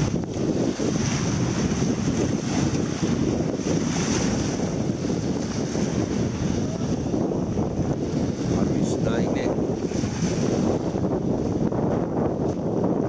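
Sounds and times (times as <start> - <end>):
small waves breaking on shore: 0.0 - 11.8
wind rumbling on microphone: 0.0 - 13.0.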